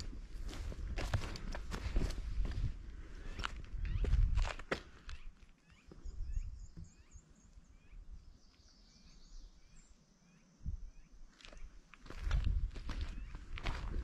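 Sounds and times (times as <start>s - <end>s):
songbirds singing: 2.6s - 14.0s.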